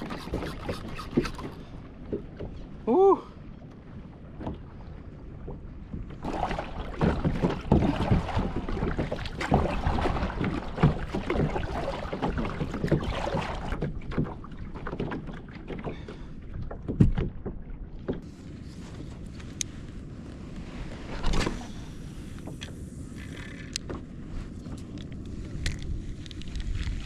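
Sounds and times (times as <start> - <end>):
water splashing against a kayak: 0.0 - 27.0.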